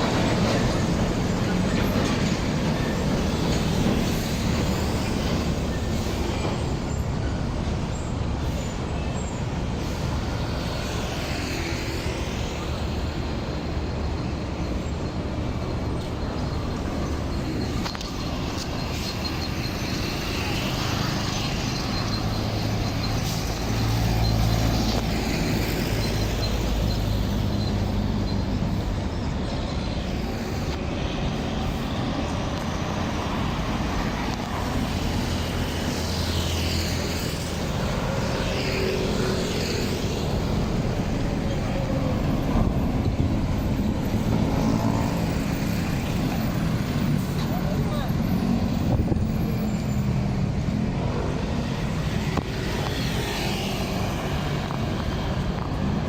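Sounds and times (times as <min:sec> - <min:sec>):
tyre and road noise: 0:00.0 - 0:56.0
vehicle engines passing: 0:00.0 - 0:56.0.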